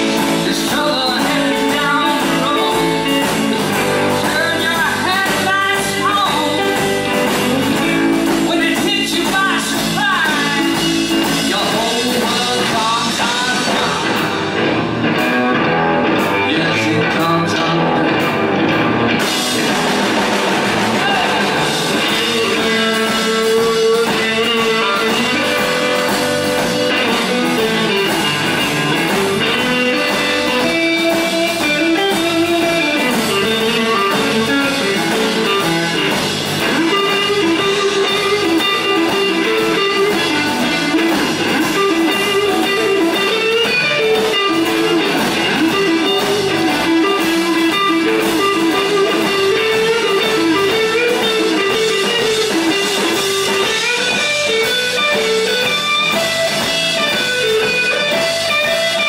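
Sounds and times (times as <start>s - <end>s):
blues-rock band playing: 0.0s - 59.0s
drums: 0.0s - 59.0s
electric guitar bending notes: 0.0s - 59.0s.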